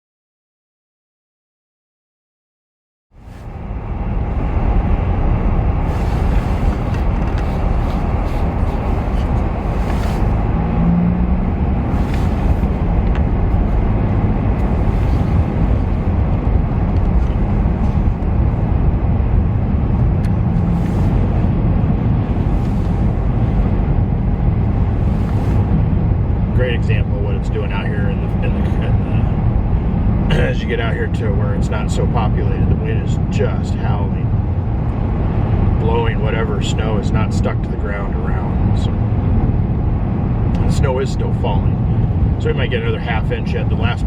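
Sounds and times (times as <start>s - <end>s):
vehicle road and wind noise: 3.1s - 44.0s.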